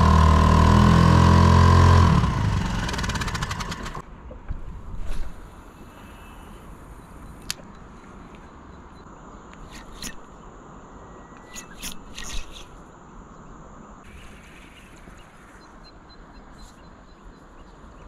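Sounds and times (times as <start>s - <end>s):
wind and water hiss: 2.6s - 18.0s.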